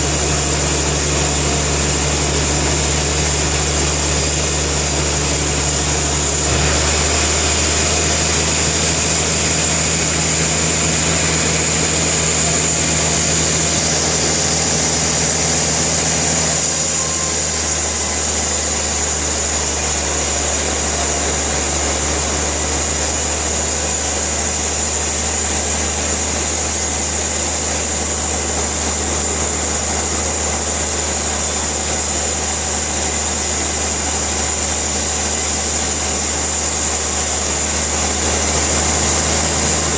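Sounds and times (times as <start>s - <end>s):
machinery high whine: 0.0s - 39.9s
sawmill machinery low hum: 0.0s - 39.9s.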